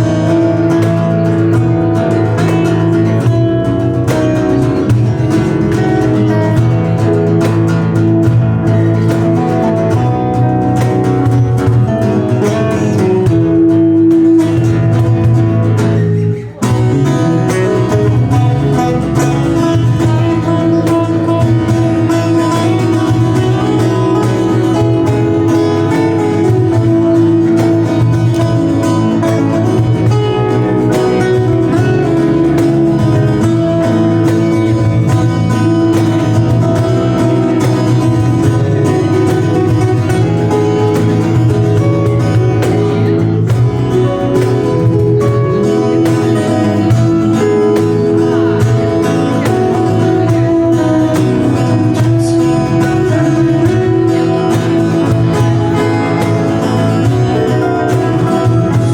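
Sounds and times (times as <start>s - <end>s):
acoustic guitar jam: 0.0s - 58.9s.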